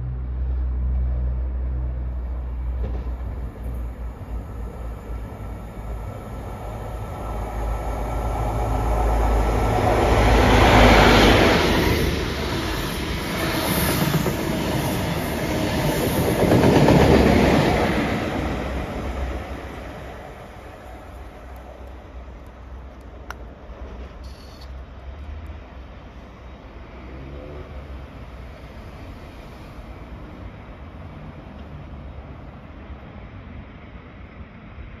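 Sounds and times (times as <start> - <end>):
diesel train passing at speed: 0.0 - 35.0.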